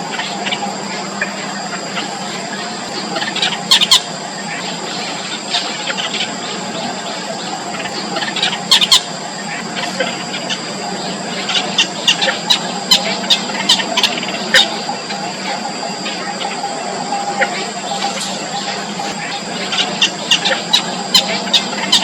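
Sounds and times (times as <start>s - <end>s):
nestlings cheeping: 0.0s - 22.0s
steady high-pitched tone: 0.0s - 22.0s.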